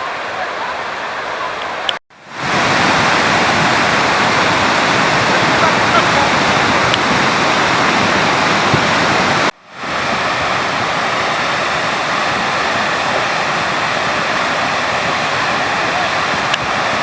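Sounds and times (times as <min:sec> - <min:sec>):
roar of rushing floodwater: 0:00.0 - 0:17.0.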